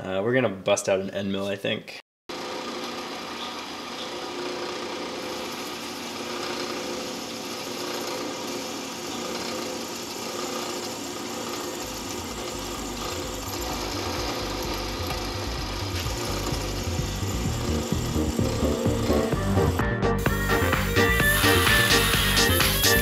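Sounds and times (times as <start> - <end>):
end mill cutting metal: 2.3 - 23.0
milling machine hum: 2.3 - 23.0.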